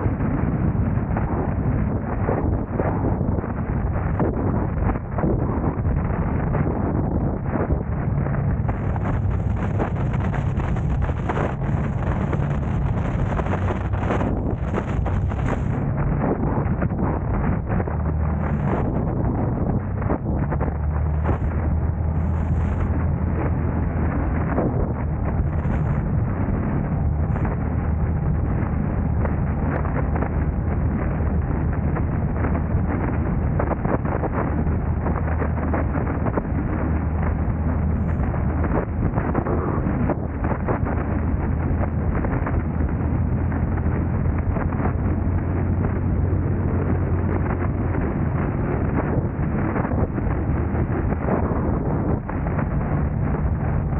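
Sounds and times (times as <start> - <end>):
car engine and road noise: 0.0 - 53.9
wind buffeting microphone: 0.0 - 53.9.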